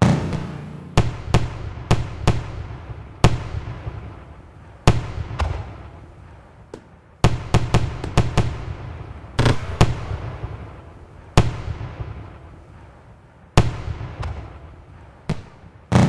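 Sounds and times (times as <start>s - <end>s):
fireworks bangs with rolling echo: 0.0s - 16.0s.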